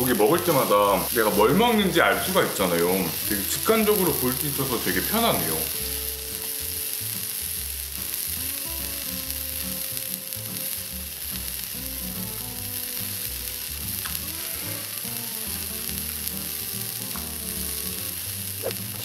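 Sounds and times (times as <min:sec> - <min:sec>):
meat sizzling on griddle pan: 0:00.0 - 0:19.0.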